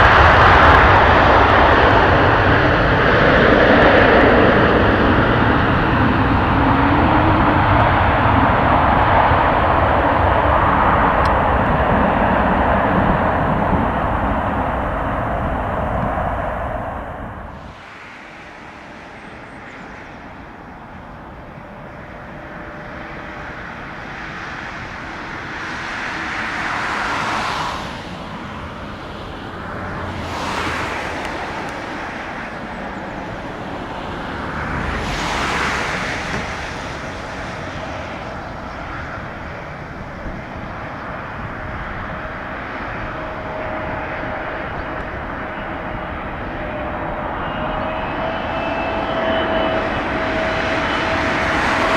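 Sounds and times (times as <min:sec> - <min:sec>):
high jet engine whine: 0:00.0 - 0:51.9
jet engines rumbling: 0:00.0 - 0:51.9
rushing noise: 0:00.0 - 0:51.9.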